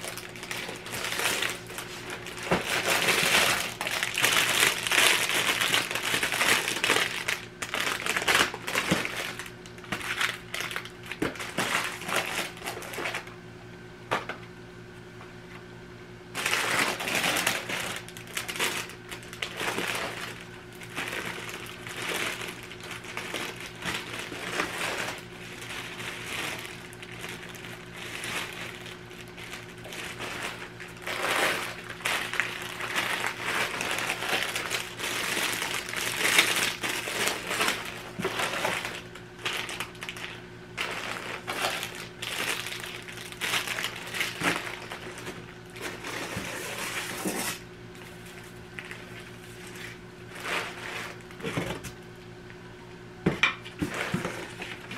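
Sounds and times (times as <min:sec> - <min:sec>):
packaging crinkling: 0:00.0 - 0:13.3, 0:16.3 - 0:51.9
faint steady hum: 0:00.0 - 0:54.9.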